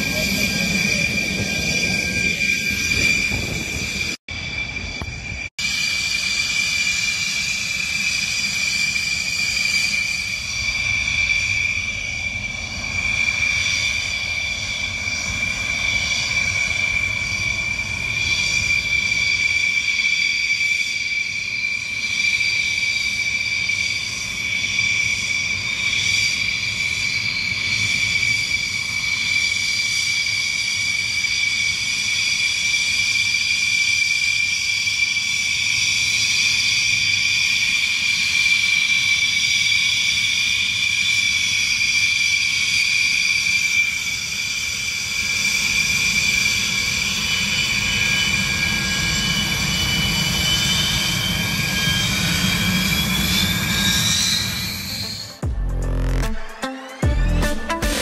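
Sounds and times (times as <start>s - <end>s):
jet engine turbine whine: 0.0s - 58.0s.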